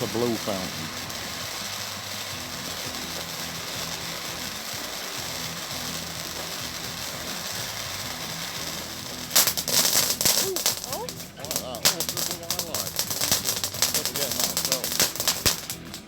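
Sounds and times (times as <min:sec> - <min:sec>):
firework fountain hissing: 0:00.0 - 0:16.0.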